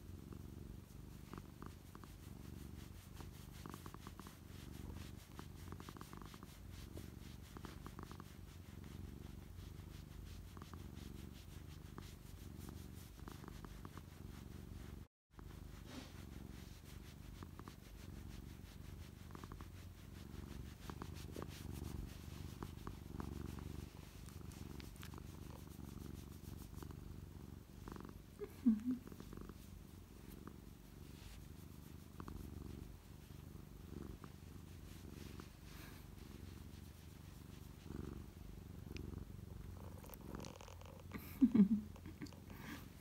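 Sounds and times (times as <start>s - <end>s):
cat purring: 0.0s - 43.0s.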